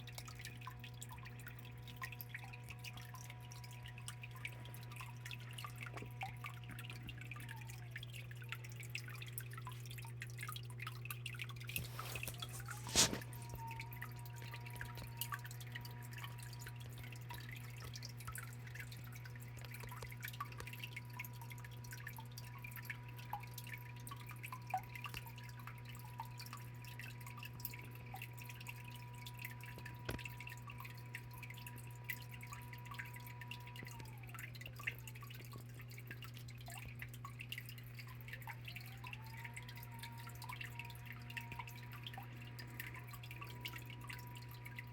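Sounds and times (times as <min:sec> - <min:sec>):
water trickling over stones: 0:00.0 - 0:44.9.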